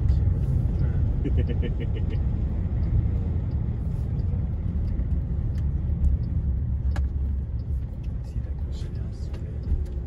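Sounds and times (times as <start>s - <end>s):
car engine rumble inside cabin: 0.0s - 10.0s.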